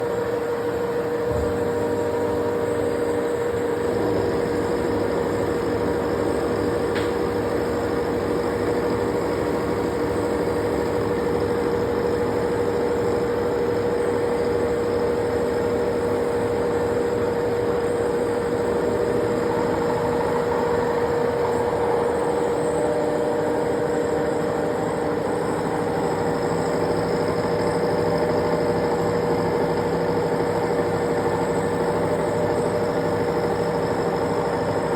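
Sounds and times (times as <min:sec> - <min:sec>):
milling machine mechanical hum: 0:00.0 - 0:34.9
milling spindle whine: 0:00.0 - 0:34.9.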